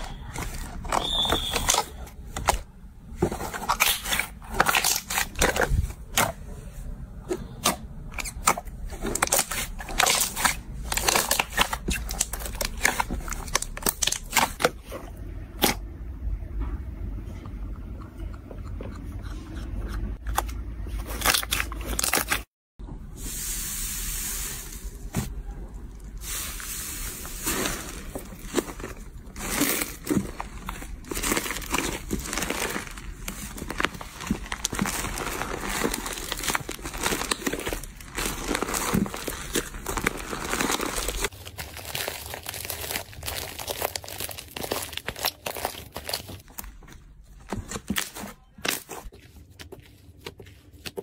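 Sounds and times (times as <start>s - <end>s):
slime squishing with crackles: 0.0s - 15.8s, 25.4s - 51.0s.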